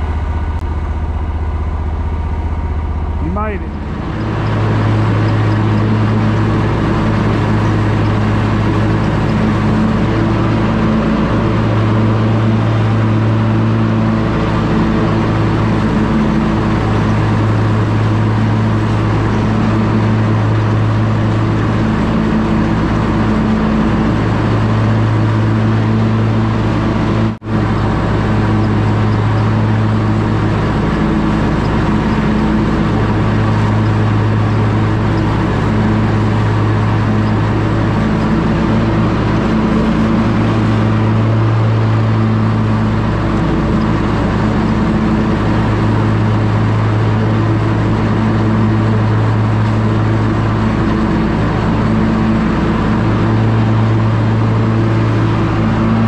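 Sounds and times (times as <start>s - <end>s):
mower engine running: 0.0s - 56.0s.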